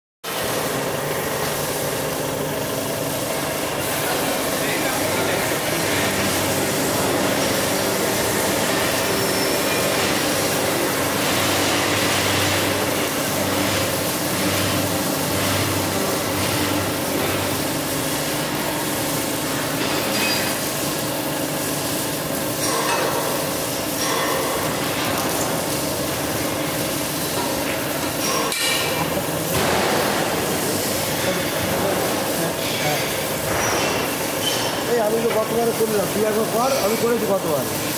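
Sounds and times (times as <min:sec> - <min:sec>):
machine motor hum: 0:00.3 - 0:37.9.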